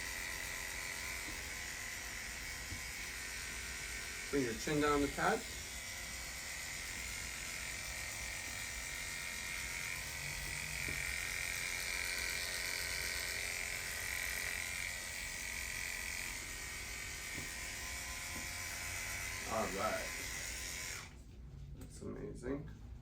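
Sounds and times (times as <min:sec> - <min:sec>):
electric hair clipper running: 0:00.0 - 0:21.2.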